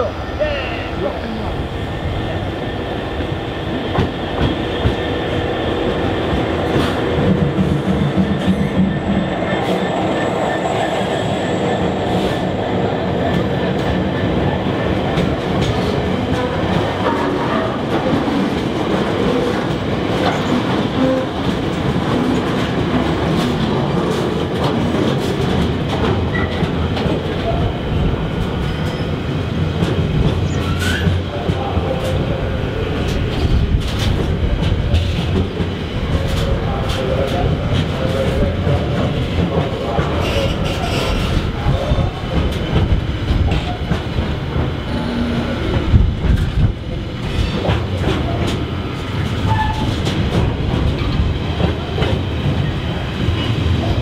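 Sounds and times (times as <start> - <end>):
diesel locomotive engine passing: 0.0 - 54.0.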